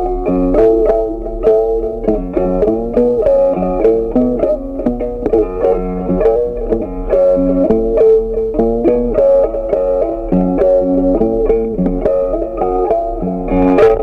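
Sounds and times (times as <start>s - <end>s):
picked plucked string melody: 0.0s - 14.0s.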